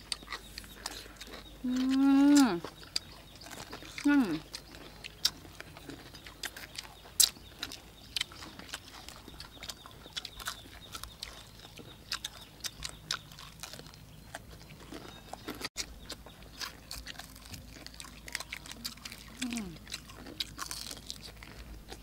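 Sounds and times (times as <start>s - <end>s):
crunching fried chicken: 0.0s - 22.0s
wet chewing and lip-smacking: 0.0s - 22.0s.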